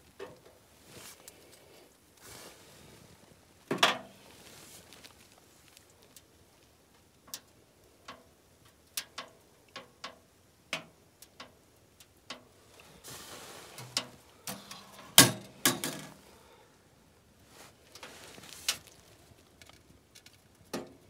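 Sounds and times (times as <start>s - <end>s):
wood fire crackling and popping: 0.0s - 16.3s, 17.4s - 21.0s.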